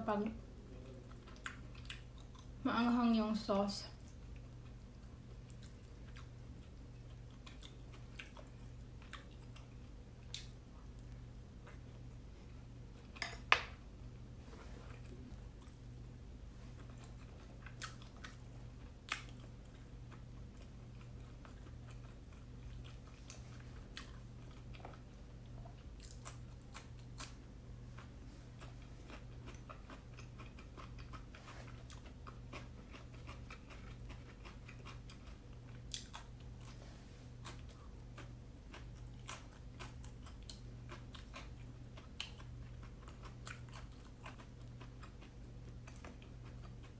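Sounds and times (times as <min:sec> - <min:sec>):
chewing and biting dumplings: 0:00.8 - 0:02.6, 0:04.0 - 0:13.2, 0:14.9 - 0:46.9.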